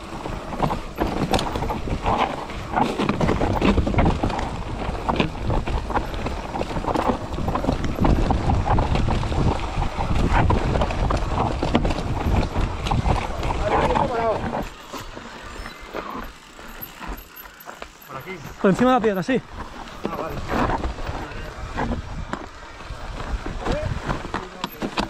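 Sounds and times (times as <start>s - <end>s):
bike rattling and knocking: 0.0s - 25.0s
bike tyres rolling over rock: 0.0s - 25.0s.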